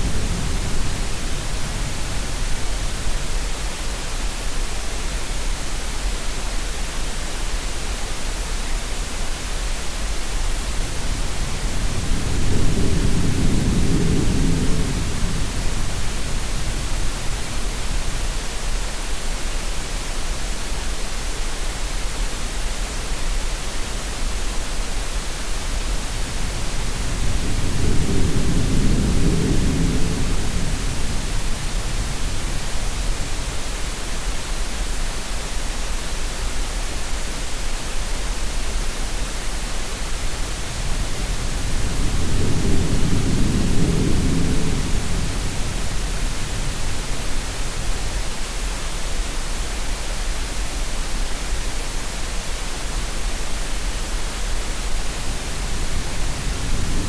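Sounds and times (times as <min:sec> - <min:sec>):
steady noise hiss: 0:00.0 - 0:57.0.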